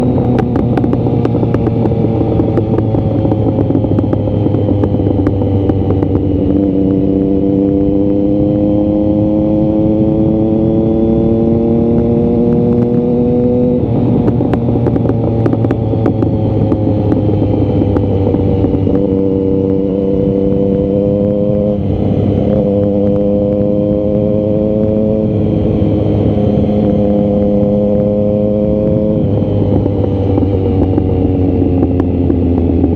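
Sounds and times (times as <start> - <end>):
motorcycle engine and exhaust: 0.0 - 32.9
steady rushing noise: 0.0 - 32.9.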